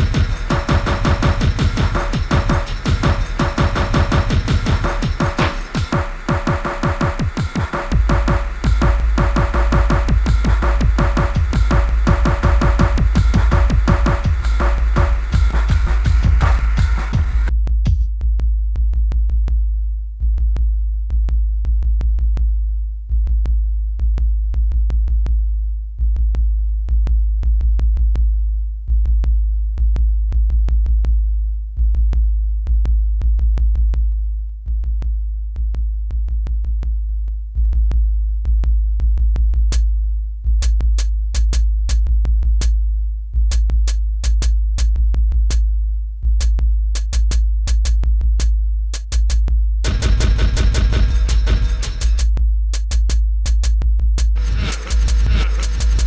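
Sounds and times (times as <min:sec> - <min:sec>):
electronic beat with sub-bass: 0:00.0 - 0:56.0.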